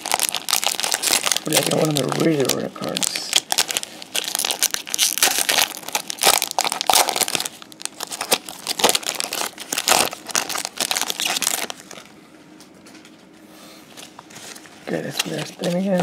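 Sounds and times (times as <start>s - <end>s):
plastic wrapper crinkling: 0.0s - 12.1s, 14.3s - 16.0s.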